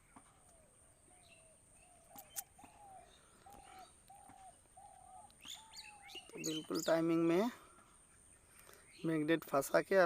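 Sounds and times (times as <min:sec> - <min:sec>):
faint bird calls: 0:00.0 - 0:09.1.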